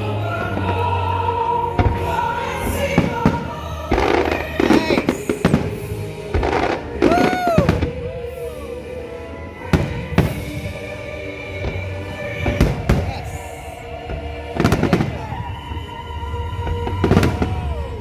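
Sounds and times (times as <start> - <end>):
fireworks bangs and crackles: 0.0 - 8.2, 9.7 - 18.0
music: 0.0 - 18.0.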